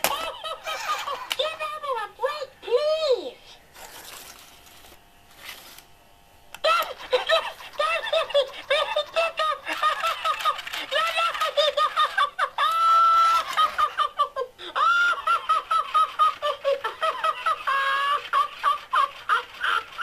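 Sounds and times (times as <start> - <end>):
toy laughing in high-pitched voice: 0.0 - 3.1, 6.6 - 20.0.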